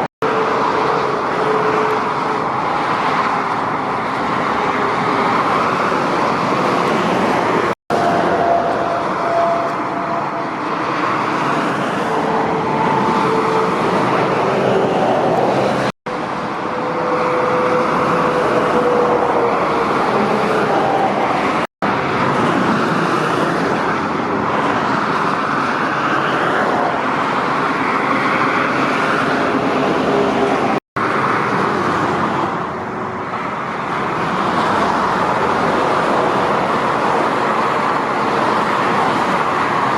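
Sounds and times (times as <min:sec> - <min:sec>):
heavy traffic passing at speed: 0:00.0 - 0:39.9.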